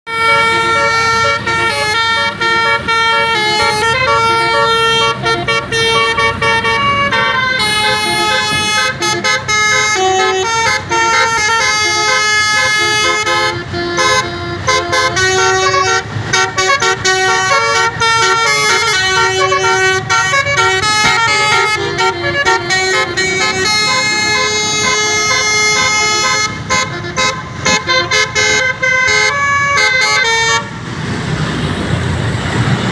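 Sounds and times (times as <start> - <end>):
musical bus horn melody: 0.1 - 30.8.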